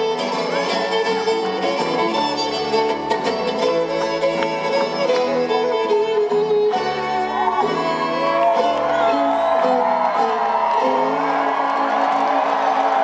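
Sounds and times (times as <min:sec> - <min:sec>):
bowed fiddle: 0:00.0 - 0:12.6
bluegrass string band playing: 0:00.0 - 0:13.0.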